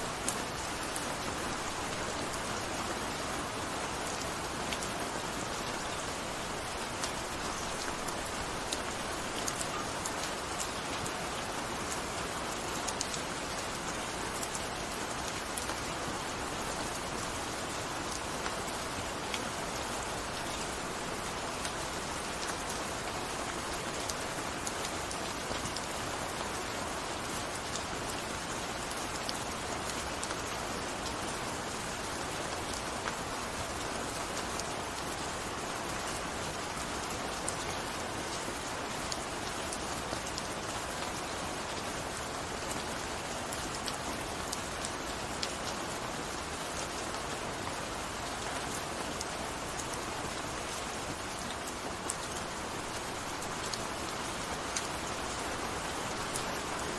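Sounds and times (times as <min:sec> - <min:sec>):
gentle rain falling: 0:00.0 - 0:56.9.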